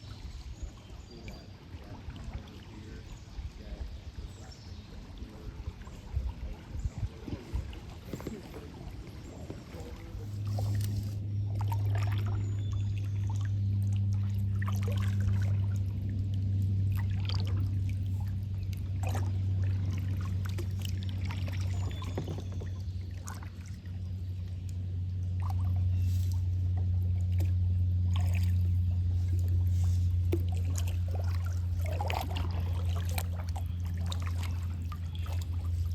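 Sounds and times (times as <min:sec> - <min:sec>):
paddles splashing water: 0:00.0 - 0:35.9
steady low hum: 0:00.0 - 0:35.9.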